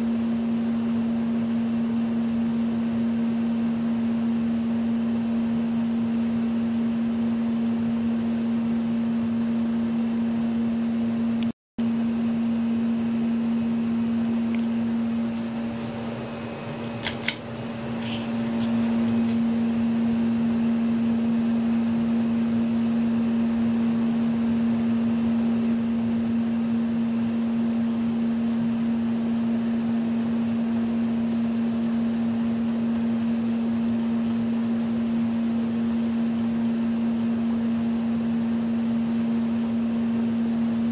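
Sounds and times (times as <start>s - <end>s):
ceiling fan motor hum: 0.0s - 40.9s.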